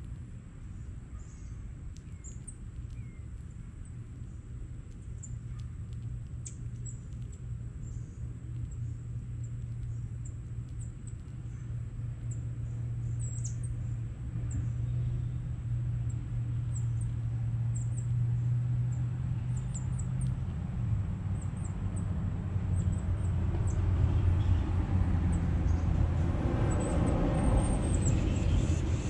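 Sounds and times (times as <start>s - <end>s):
vehicle engine humming: 1.9s - 29.0s.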